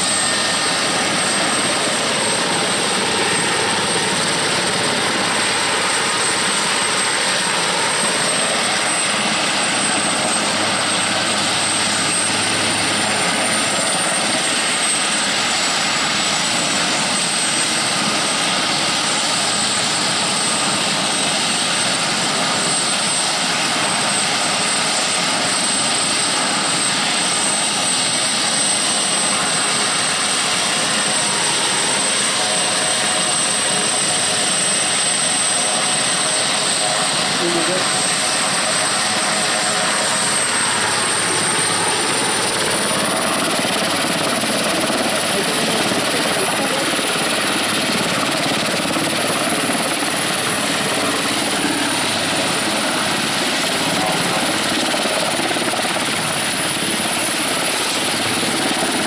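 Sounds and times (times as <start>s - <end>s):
helicopter engine and rotor noise: 0.0s - 59.0s
high turbine whine: 0.0s - 59.0s.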